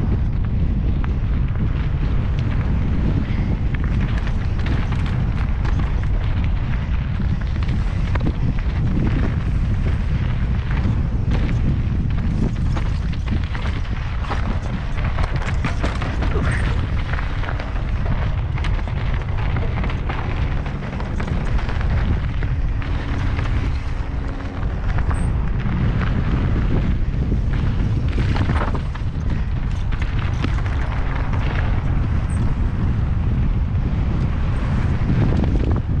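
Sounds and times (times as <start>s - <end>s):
bike rattling on dirt trail: 0.0s - 36.0s
wind rumble on microphone: 0.0s - 36.0s.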